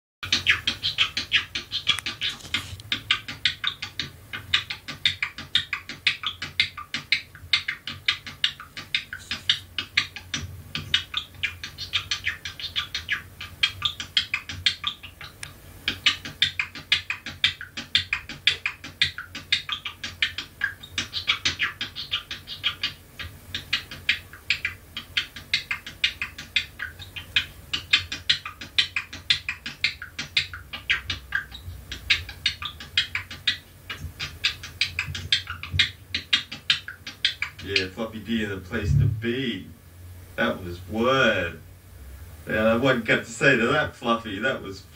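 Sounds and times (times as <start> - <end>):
budgerigar chattering: 0.2 - 39.6
faint low hum: 0.2 - 44.9.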